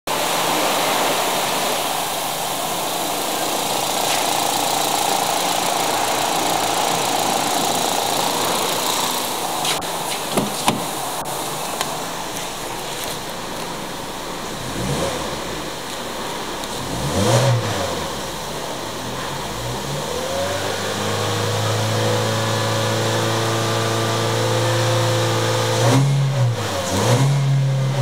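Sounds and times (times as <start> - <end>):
car engine idling: 0.1 - 28.0.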